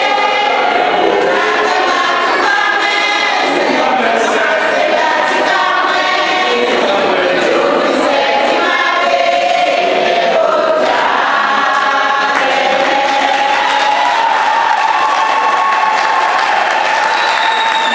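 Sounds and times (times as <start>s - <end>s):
choir singing: 0.0s - 15.6s.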